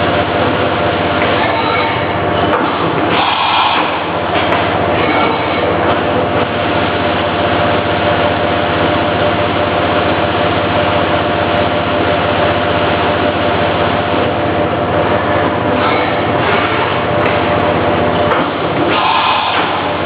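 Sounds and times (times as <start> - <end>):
machining center cutting metal: 0.0 - 20.0.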